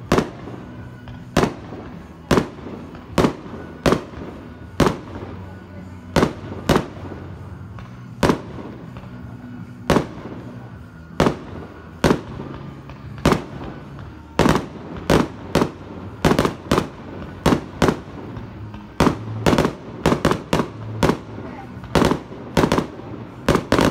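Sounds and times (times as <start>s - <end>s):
fireworks bursting: 0.0s - 23.9s.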